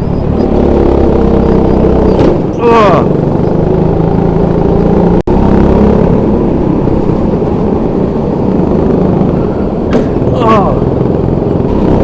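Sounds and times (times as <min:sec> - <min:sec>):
go-kart engine running hard: 0:00.0 - 0:12.0.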